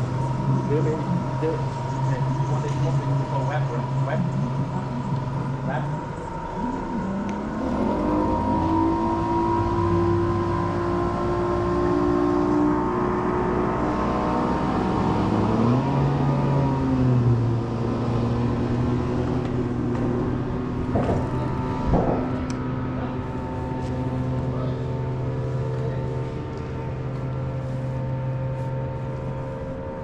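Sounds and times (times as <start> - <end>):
boat motor running: 0.0 - 30.0.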